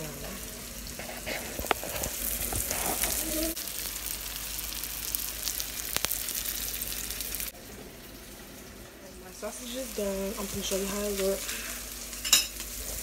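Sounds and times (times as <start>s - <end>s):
sausage sizzling in a pan: 0.0s - 13.0s.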